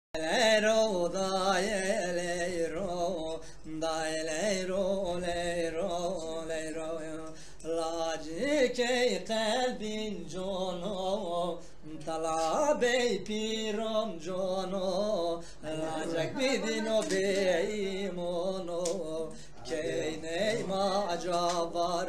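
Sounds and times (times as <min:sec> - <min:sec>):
man singing folk song: 0:00.2 - 0:22.0.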